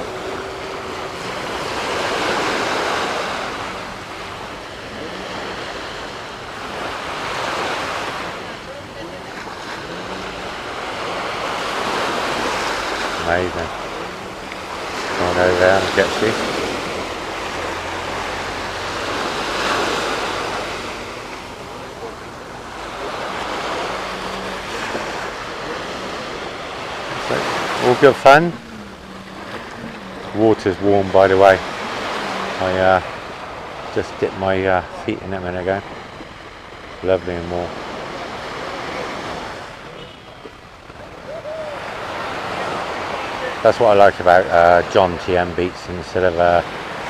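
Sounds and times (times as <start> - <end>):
waves washing onto sandy beach: 0.0 - 47.0.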